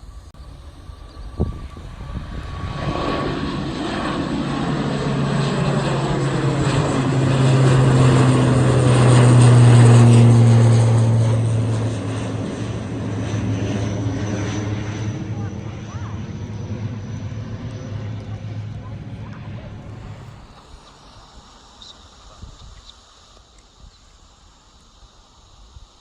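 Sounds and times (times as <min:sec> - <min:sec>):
airliner engines roaring: 0:00.0 - 0:26.0.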